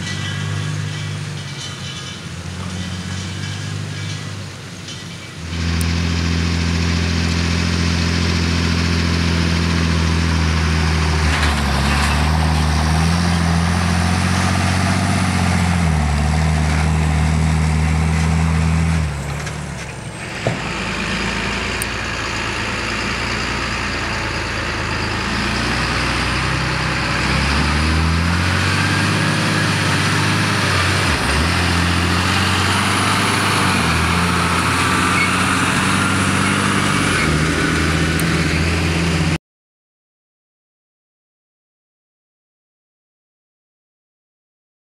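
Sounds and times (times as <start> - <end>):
tractor diesel engine under load: 0.0 - 39.4.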